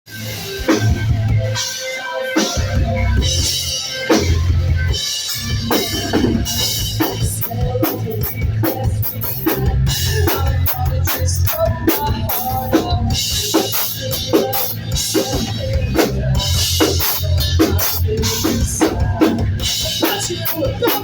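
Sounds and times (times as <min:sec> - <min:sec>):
rock band playing live: 0:00.1 - 0:21.0
rapid drum strikes: 0:02.5 - 0:21.0.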